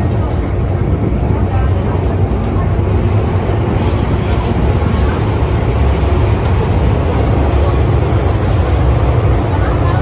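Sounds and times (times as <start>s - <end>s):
subway wheels rumbling on rails: 0.0s - 10.0s
tunnel noise hiss: 0.0s - 10.0s.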